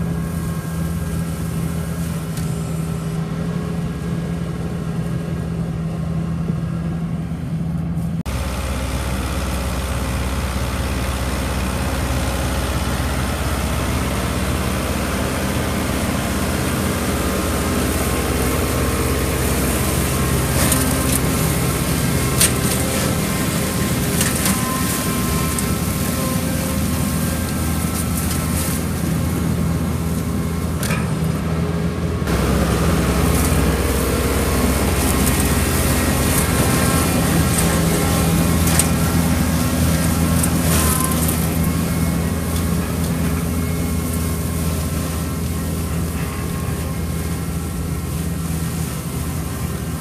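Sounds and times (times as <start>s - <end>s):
tractor running under load: 0.0s - 50.0s.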